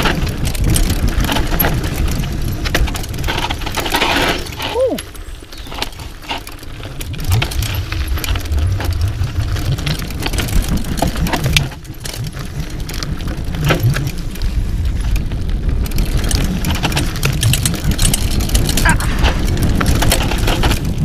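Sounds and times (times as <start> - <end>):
bike chain rattling: 0.0 - 21.0
wind and tyres rumbling: 0.0 - 21.0.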